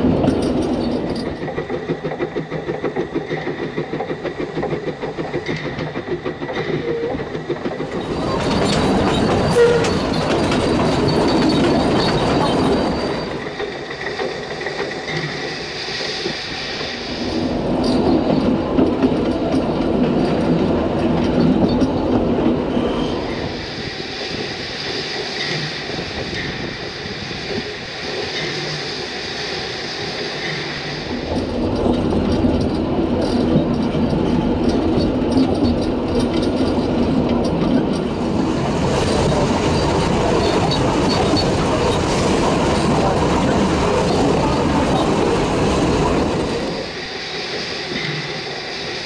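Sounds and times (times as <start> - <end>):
train wheel clatter: 0.0 - 49.0.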